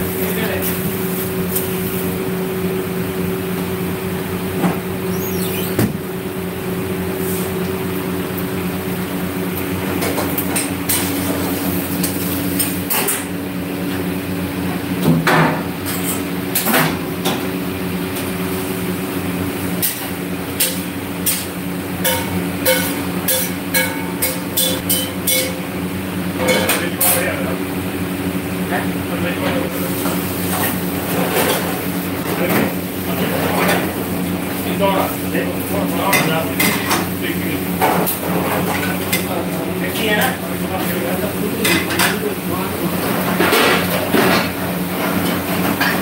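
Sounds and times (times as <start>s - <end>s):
kitchen equipment humming: 0.0s - 46.0s.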